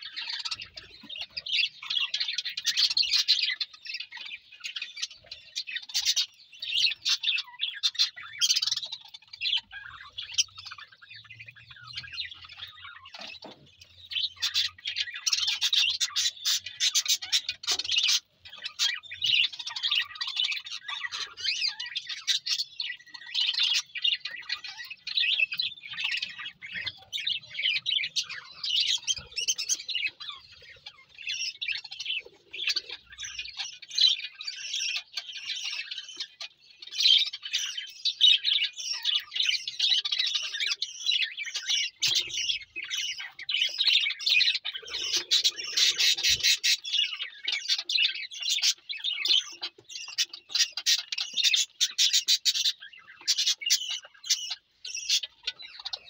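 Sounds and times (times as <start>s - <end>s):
budgerigars chirping and chattering: 0.0s - 56.0s.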